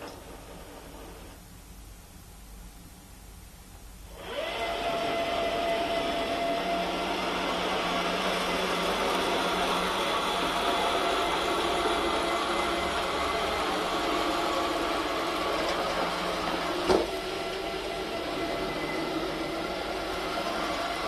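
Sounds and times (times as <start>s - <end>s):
robot vacuum cleaner whining hum: 0.0s - 1.4s, 4.1s - 21.0s.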